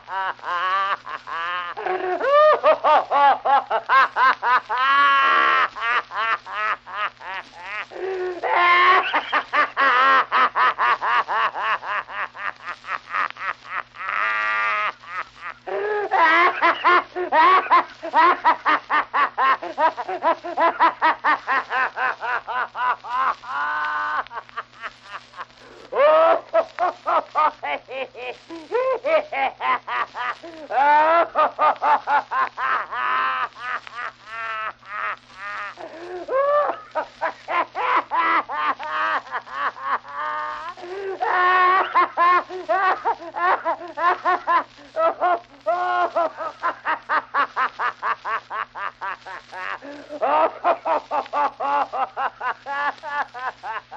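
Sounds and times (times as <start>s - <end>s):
low recording hum: 0.0s - 53.9s
man laughing: 0.0s - 53.9s.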